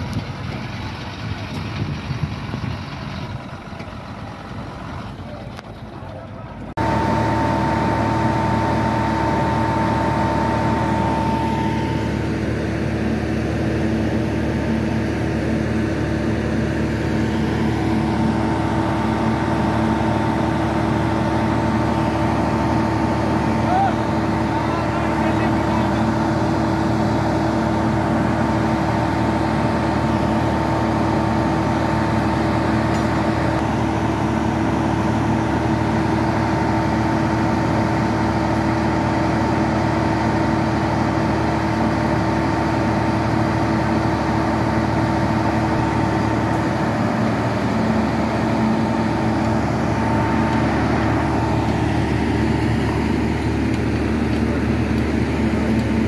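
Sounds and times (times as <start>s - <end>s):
machine engine droning with whine: 0.0s - 56.0s.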